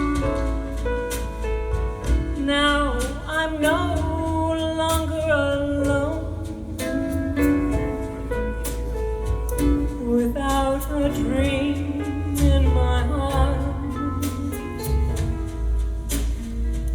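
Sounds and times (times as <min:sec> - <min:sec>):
guitar and bass: 0:00.0 - 0:16.9
slow jazz ballad: 0:00.0 - 0:16.9
held melody with vibrato: 0:02.2 - 0:16.9.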